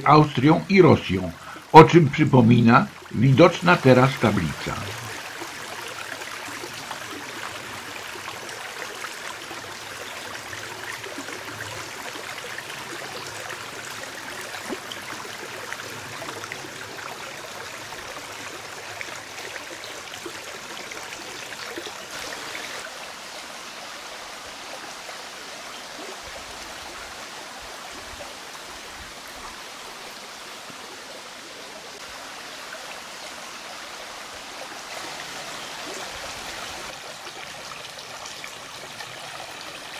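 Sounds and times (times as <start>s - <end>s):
shallow stream running: 0.0s - 39.9s.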